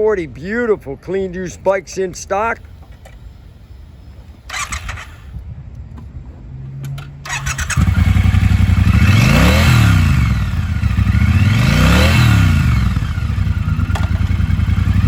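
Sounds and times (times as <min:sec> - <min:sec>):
motorcycle engine idling and revving: 0:02.8 - 0:15.0.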